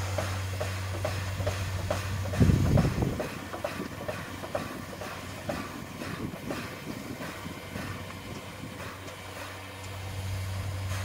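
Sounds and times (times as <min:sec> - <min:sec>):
steam locomotive wheel clicks: 0:00.0 - 0:11.0.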